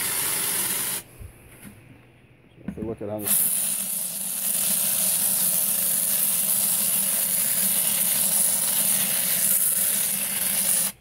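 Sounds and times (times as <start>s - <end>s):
compressed air hissing: 0.0s - 1.1s, 3.2s - 11.0s.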